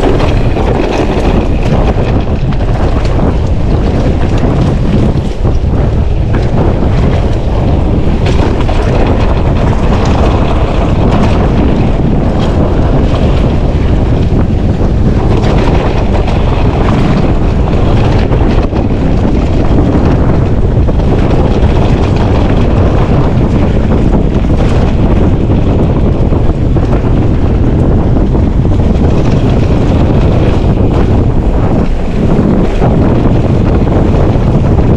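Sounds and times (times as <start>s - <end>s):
bike knocks and rattles: 0.0s - 34.9s
wind noise on microphone: 0.0s - 34.9s.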